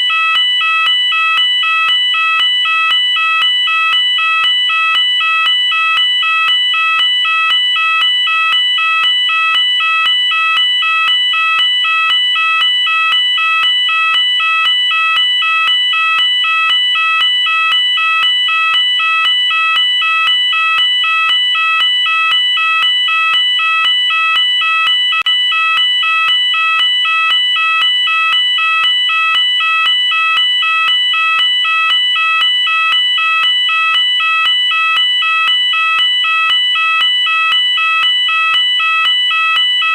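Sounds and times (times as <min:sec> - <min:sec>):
fire alarm two-tone warble: 0:00.0 - 0:39.9.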